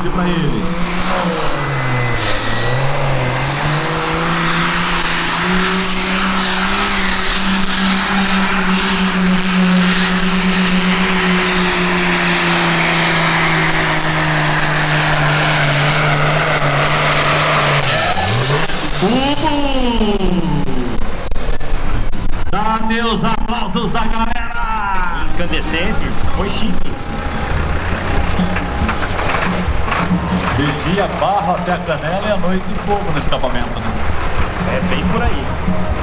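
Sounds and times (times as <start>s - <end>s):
tractor diesel engine at full throttle: 0.0s - 36.0s.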